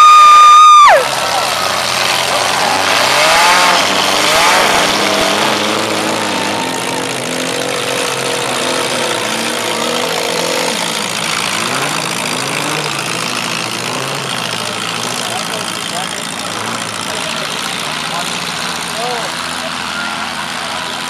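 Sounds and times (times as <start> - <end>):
car engines running and revving: 0.0 - 21.0.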